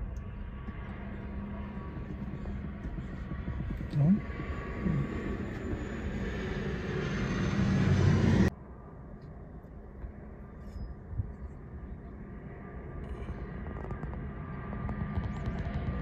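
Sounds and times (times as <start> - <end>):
propeller plane passing overhead: 0.0 - 10.6, 11.2 - 16.0.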